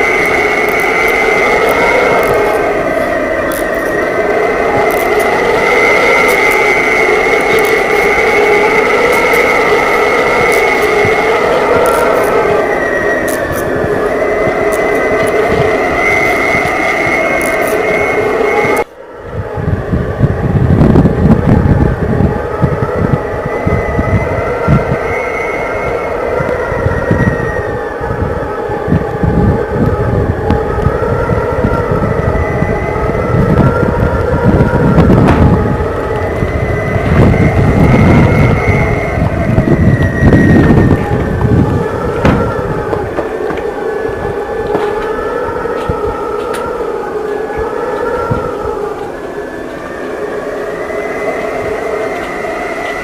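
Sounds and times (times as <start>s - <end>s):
high whining tone: 0.0s - 53.0s
steady noise with hum: 0.0s - 53.0s
wind buffeting microphone: 0.0s - 53.0s.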